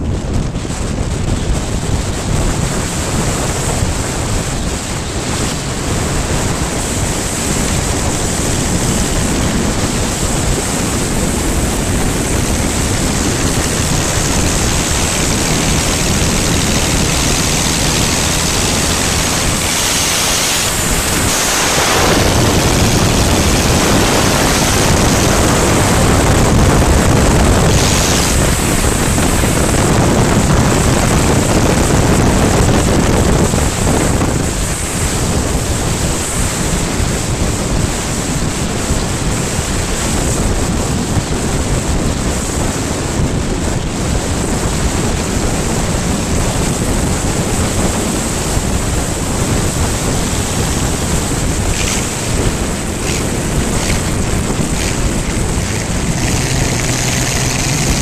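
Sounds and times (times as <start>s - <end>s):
road noise: 0.0s - 58.0s
wind rushing over microphone: 0.0s - 58.0s.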